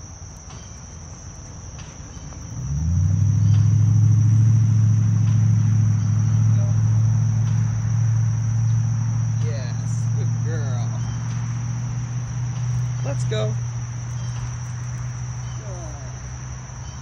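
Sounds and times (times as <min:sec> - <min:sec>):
crickets chirping: 0:00.0 - 0:17.0
low engine hum: 0:00.0 - 0:17.0.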